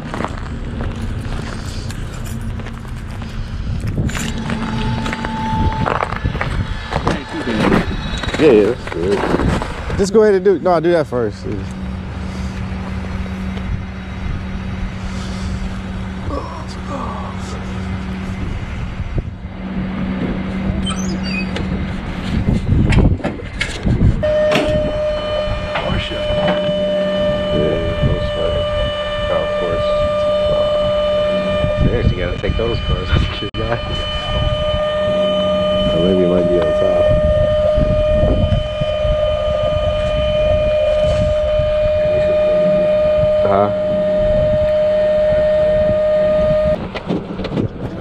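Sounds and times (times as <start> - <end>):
low rumble: 0.0 - 48.0
steady whine: 0.0 - 48.0
truck engine hum: 0.0 - 48.0.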